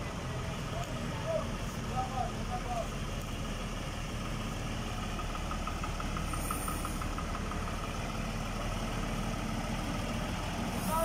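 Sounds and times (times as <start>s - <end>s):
crane engine idling: 0.0s - 11.0s.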